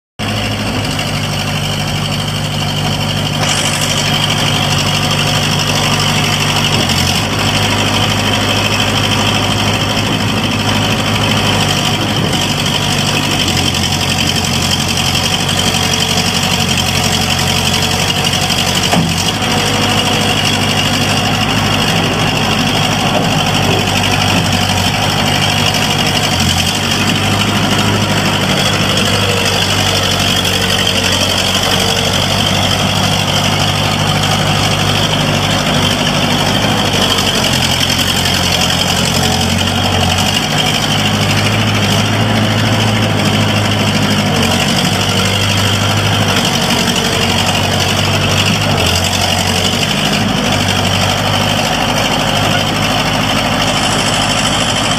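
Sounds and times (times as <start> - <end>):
skid steer loader diesel engine: 0.2 - 54.9.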